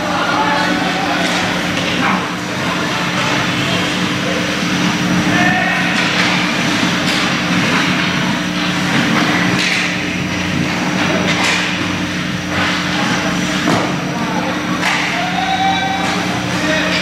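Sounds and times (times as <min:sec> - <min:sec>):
low hum of rink: 0:00.0 - 0:17.0
hockey sticks hitting puck: 0:00.6 - 0:03.9, 0:05.3 - 0:17.0.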